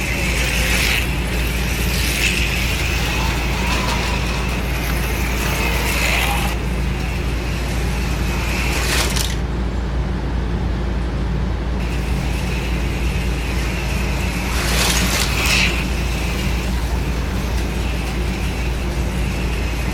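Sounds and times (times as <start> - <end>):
slot car motors whining: 0.0 - 19.9
steady low hum: 0.0 - 19.9.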